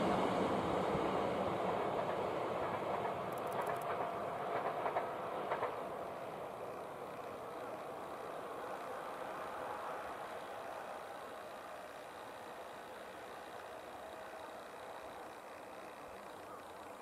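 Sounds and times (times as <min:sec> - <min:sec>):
train running past: 0:00.0 - 0:17.0
wheels clicking over rail joints: 0:01.6 - 0:17.0.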